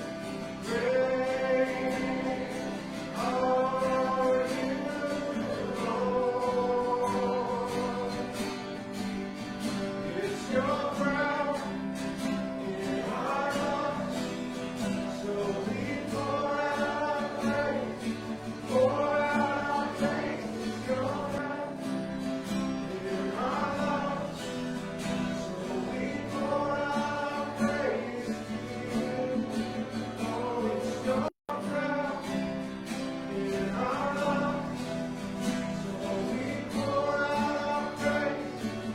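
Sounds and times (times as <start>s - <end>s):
group singing worship song: 0.0s - 38.9s.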